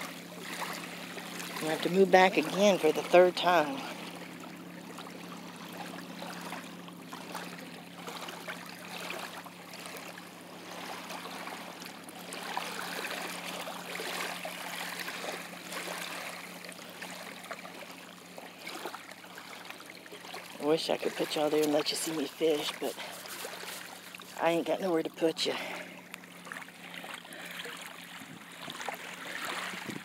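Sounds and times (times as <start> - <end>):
water lapping over sand: 0.0 - 30.0.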